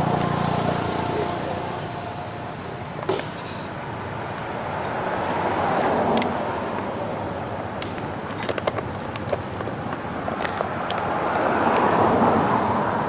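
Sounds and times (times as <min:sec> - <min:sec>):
outdoor rushing noise: 0:00.0 - 0:13.0.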